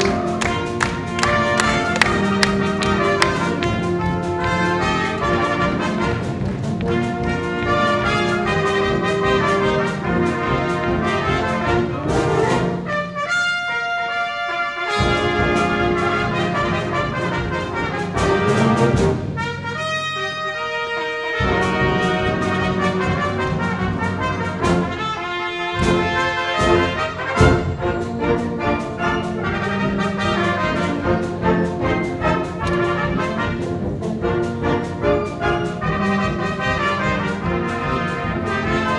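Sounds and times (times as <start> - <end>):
brass playing held notes: 0.0 - 38.9.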